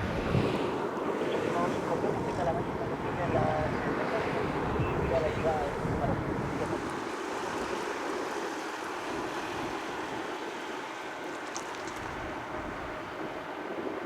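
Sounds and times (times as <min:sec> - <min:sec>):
distant jet engines rushing: 0:00.0 - 0:14.0.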